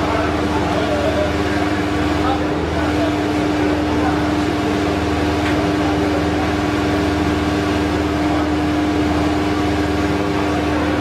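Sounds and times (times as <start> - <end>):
mechanical hum with pitched tone: 0.0 - 11.0.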